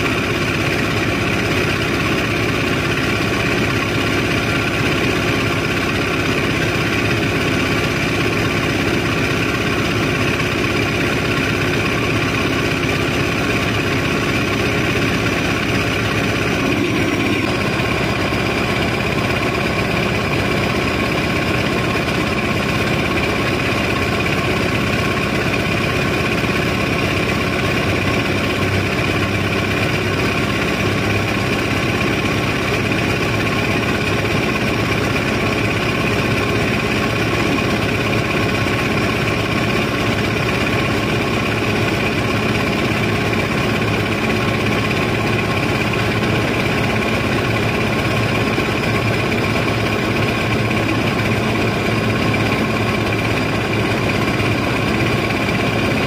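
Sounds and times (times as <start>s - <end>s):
large engine running steadily: 0.0s - 56.0s.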